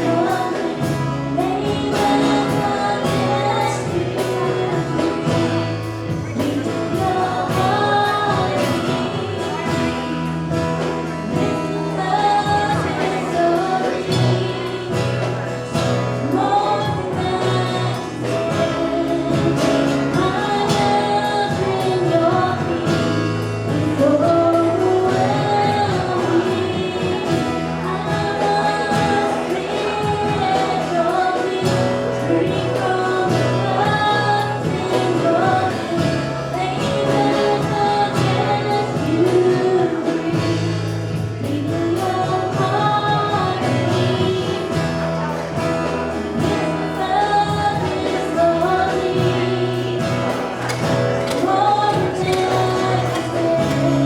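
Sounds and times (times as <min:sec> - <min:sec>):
choir singing: 0:00.0 - 0:54.0
gospel singing: 0:00.0 - 0:54.0
instrumental accompaniment: 0:00.0 - 0:54.0.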